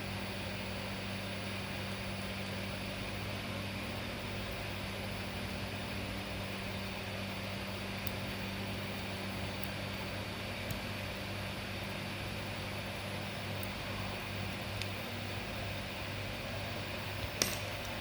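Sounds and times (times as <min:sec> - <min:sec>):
electrical machine hum: 0:00.0 - 0:18.0.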